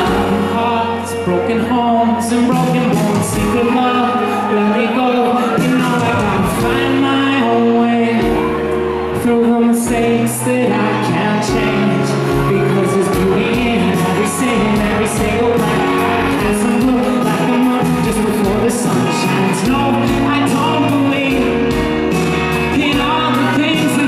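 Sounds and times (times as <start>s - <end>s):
live pop-rock band: 0.0s - 24.0s
man singing into microphone: 0.0s - 24.0s.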